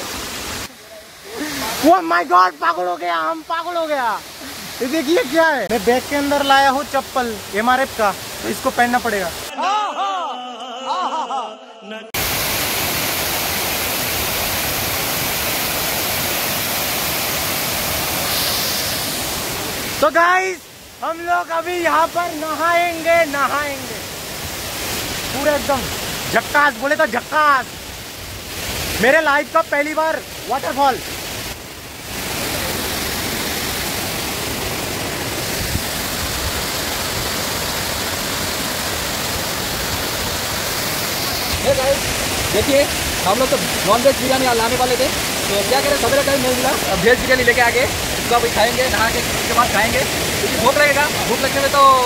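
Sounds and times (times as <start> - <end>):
waterfall rushing: 0.0 - 9.7, 12.1 - 52.0.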